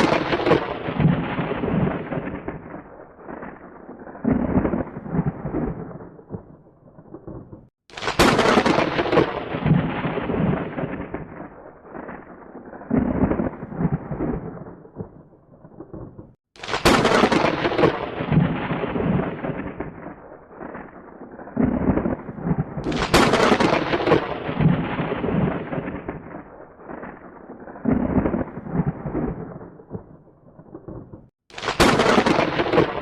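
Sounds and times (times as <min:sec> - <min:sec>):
thunder rumbling: 0:00.0 - 0:33.0.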